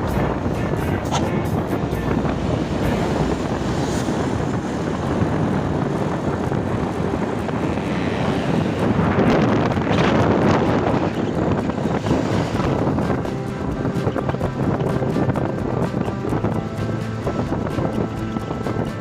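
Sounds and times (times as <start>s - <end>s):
scooter road noise: 0.0s - 19.0s
wind buffeting microphone: 0.0s - 19.0s.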